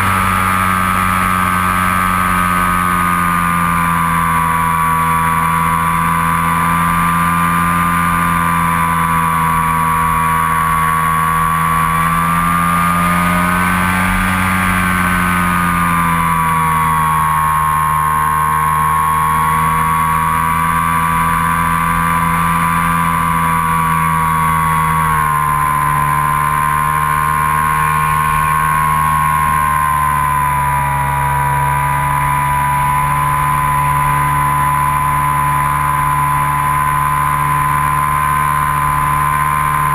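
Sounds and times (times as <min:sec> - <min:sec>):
model plane motor and propeller whining: 0:00.0 - 0:39.9.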